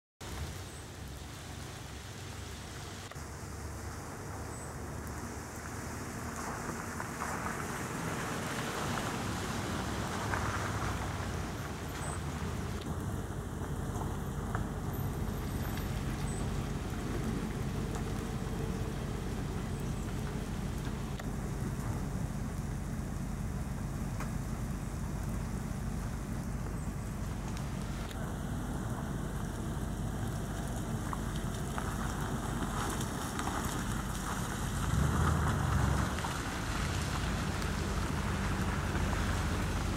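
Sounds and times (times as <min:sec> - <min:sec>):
car rumbling on wet road: 0:00.2 - 0:39.9
steady rain falling: 0:00.2 - 0:39.9.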